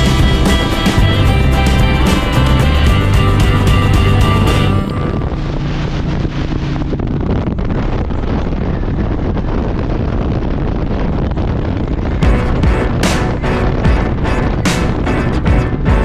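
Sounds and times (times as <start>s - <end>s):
motorcycle engine running: 0.0s - 9.7s, 11.9s - 16.0s
wind rushing over microphone: 0.0s - 16.0s.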